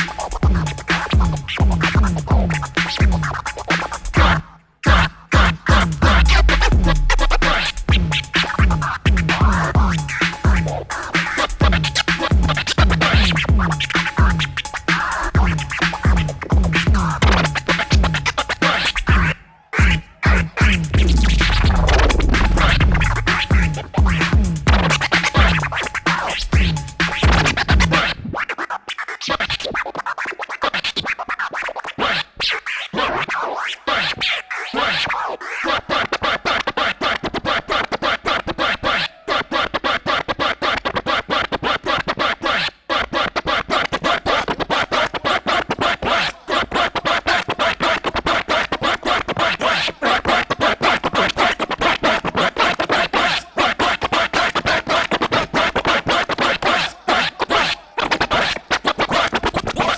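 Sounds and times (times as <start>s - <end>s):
turntable scratching: 0.0s - 59.9s.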